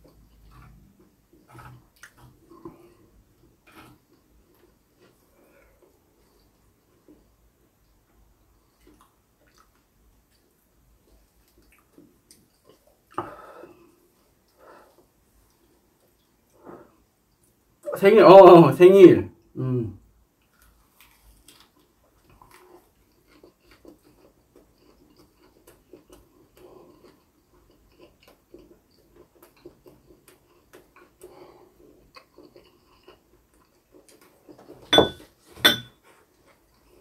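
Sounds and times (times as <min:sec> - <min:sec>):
man chewing wetly: 0:00.0 - 0:17.6, 0:20.4 - 0:35.4, 0:36.0 - 0:37.0.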